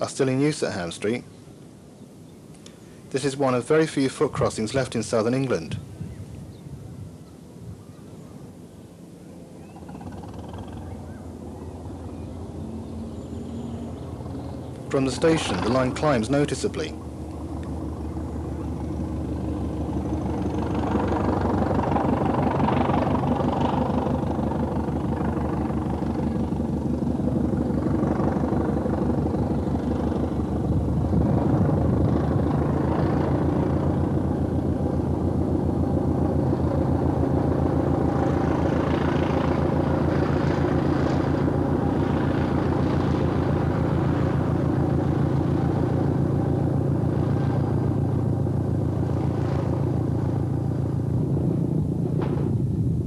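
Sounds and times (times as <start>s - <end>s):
diesel train engine under power: 9.7s - 53.0s.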